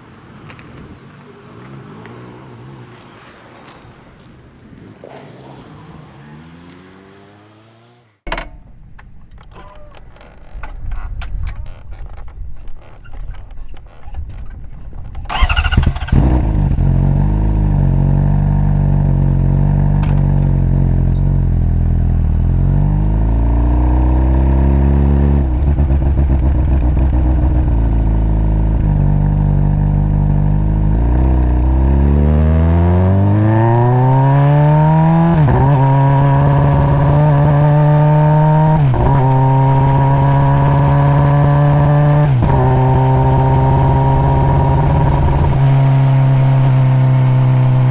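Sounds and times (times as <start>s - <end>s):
motorcycle accelerating through gears: 5.0s - 8.6s, 10.1s - 47.9s
motorcycle engine starting and idling: 8.3s - 47.9s.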